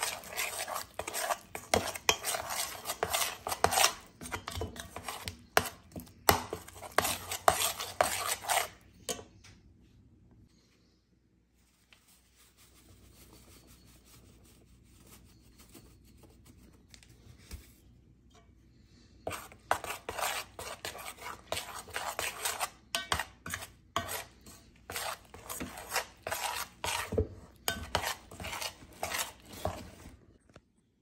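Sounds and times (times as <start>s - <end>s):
spoon stirring and scraping batter: 0.0s - 9.4s, 11.6s - 30.4s.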